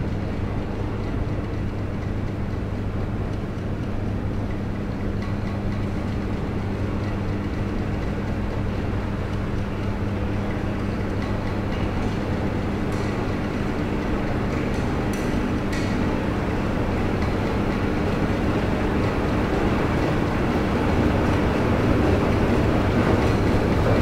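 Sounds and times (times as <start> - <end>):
washing machines and dryers humming: 0.0 - 24.0.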